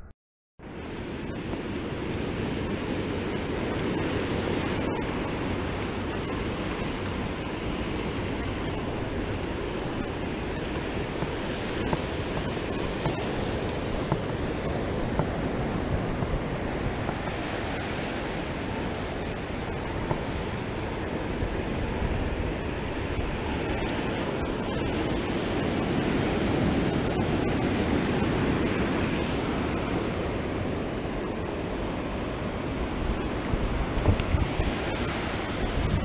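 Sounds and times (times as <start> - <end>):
wind on microphone: 0.7 - 36.0
surf washing onto beach: 0.8 - 36.0.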